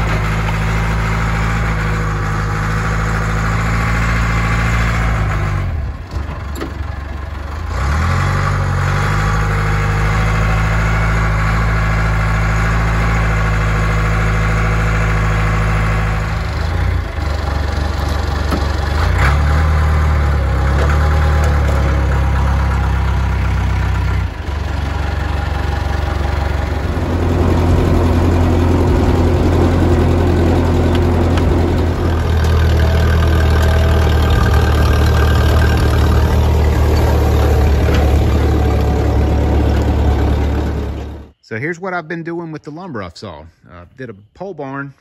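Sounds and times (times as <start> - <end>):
tractor engine running: 0.0 - 41.6.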